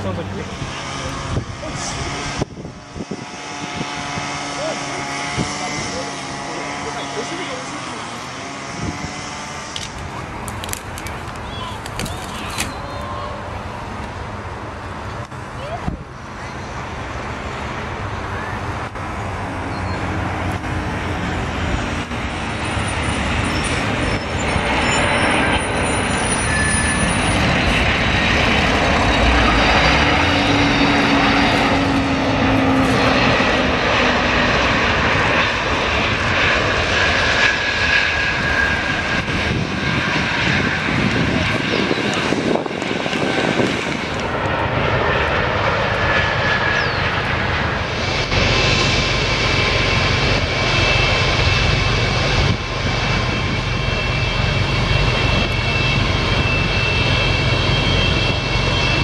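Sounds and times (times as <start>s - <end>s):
jet aircraft rumble: 0.0s - 59.0s.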